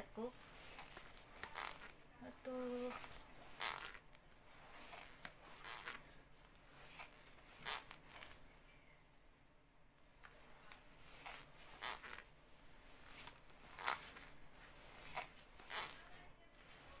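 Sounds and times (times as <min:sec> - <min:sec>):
exerciser swishing: 0:00.0 - 0:08.5, 0:10.2 - 0:17.0.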